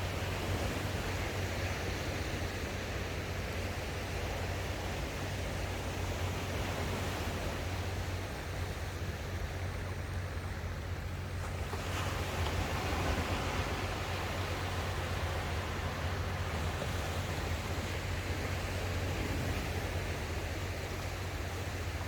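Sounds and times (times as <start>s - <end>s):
ocean waves washing on shore: 0.0s - 22.0s.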